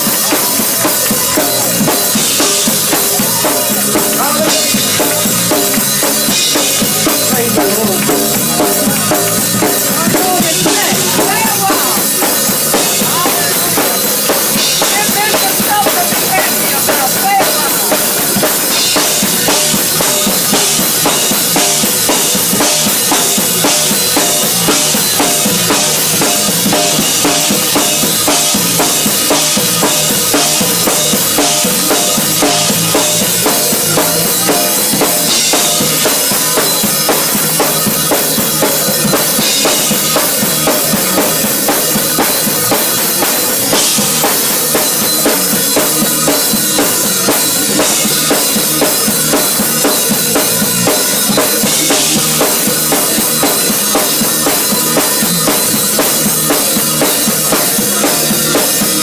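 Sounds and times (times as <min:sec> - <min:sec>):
drum kit beat: 0:00.0 - 0:59.0
electric guitar: 0:00.0 - 0:59.0
gospel band playing: 0:00.0 - 0:59.0
keyboard: 0:00.0 - 0:59.0.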